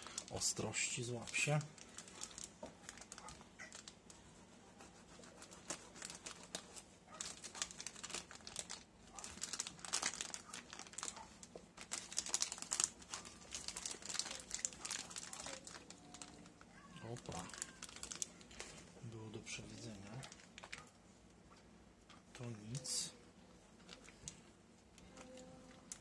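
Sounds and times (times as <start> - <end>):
plastic bag crinkling: 0.0 - 21.0, 22.2 - 26.0.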